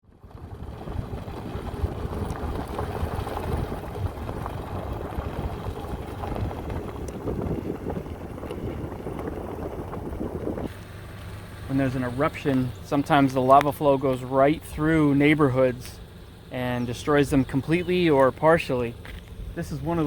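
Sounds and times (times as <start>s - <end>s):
vehicle low rumble: 0.0s - 20.0s
tyres crackling on gravel: 0.2s - 20.0s.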